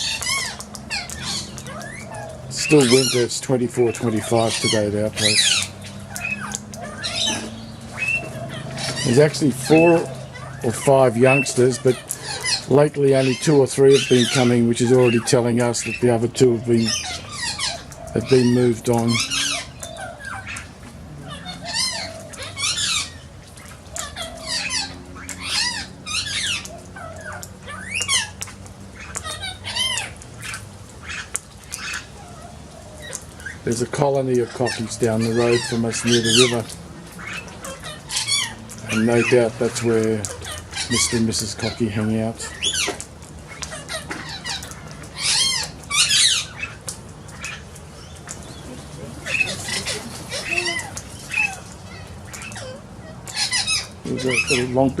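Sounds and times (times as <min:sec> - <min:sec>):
cockatoos whining cries: 0:00.0 - 0:55.0.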